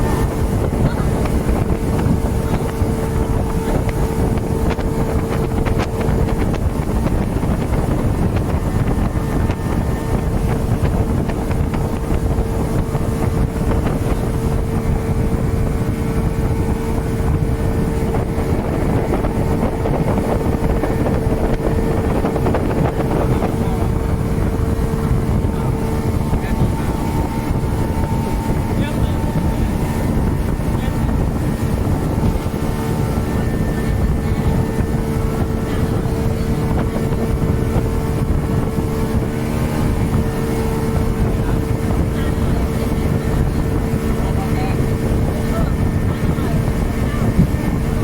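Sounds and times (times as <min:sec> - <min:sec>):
speedboat engine running: 0:00.0 - 0:48.0
wind buffeting microphone: 0:00.0 - 0:48.0.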